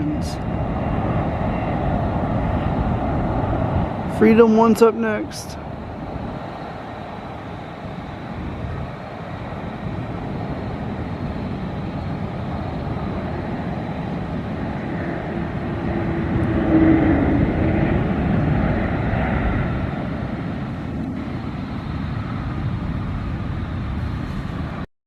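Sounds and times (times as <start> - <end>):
jet airliner passing: 0.0 - 24.9
jet engine whine: 0.0 - 24.9.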